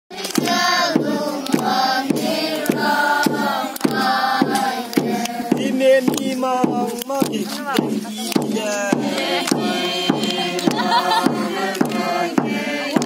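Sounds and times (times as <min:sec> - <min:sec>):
children singing in unison: 0:00.1 - 0:05.8, 0:08.1 - 0:13.0
hands clapping on the beat: 0:00.1 - 0:13.0.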